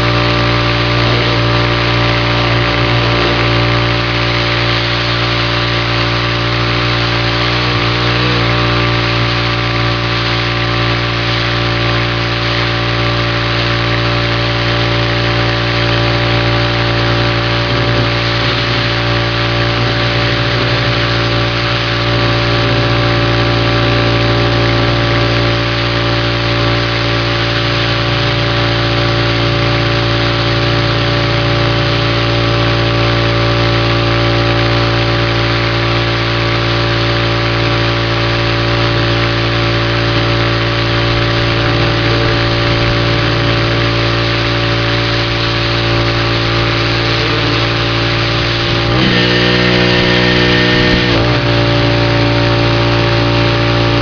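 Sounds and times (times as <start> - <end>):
pressure washer engine running: 0.0 - 54.0.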